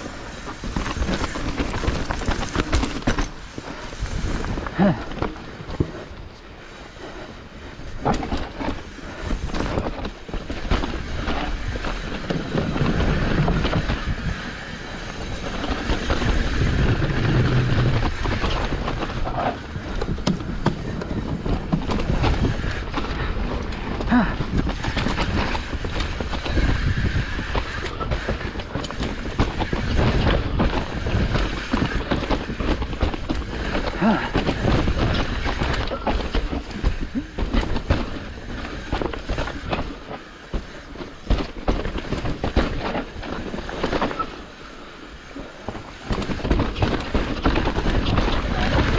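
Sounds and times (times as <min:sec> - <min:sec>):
tyres rumbling over dirt and rocks: 0:00.0 - 0:06.4, 0:07.0 - 0:48.9
bike chain and frame rattling: 0:00.0 - 0:48.9.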